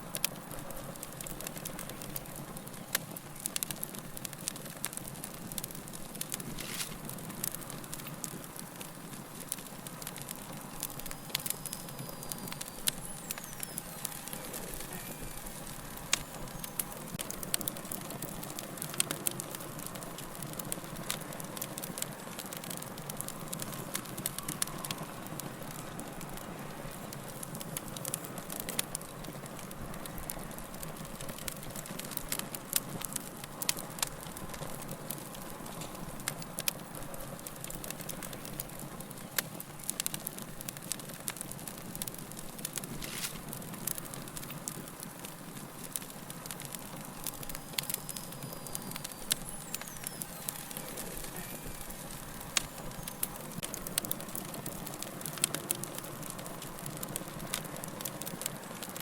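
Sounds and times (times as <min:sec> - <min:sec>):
log fire hissing: 0:00.0 - 0:59.0
wood crackling and popping: 0:00.0 - 0:59.0.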